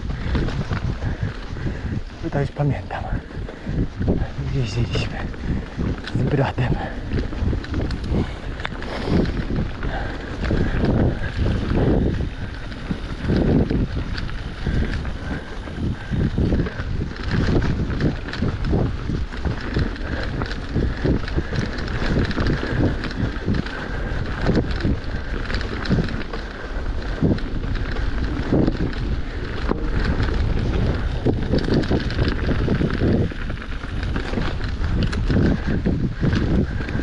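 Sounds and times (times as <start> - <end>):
bike rattling over bumps: 0.0 - 37.0
tyres crunching on dirt trail: 0.0 - 37.0
wind buffeting microphone: 0.0 - 37.0.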